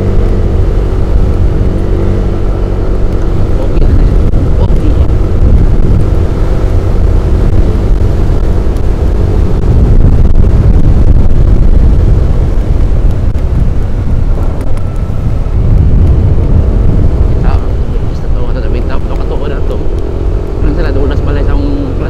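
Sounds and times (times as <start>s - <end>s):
scooter engine humming: 0.0s - 22.0s
wind rushing over microphone: 0.0s - 22.0s.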